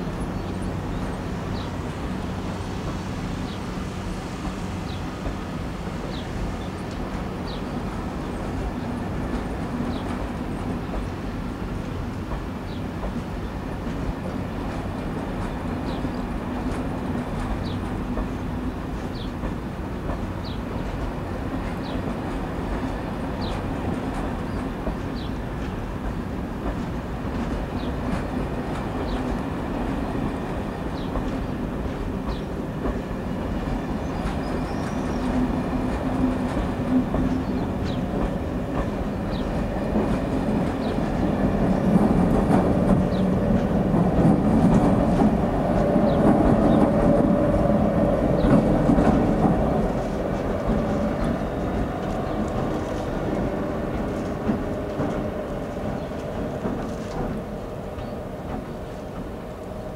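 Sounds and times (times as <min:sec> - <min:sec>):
diesel locomotive engines: 0:00.0 - 0:59.9
train wheel clicks on rails: 0:00.1 - 0:59.9.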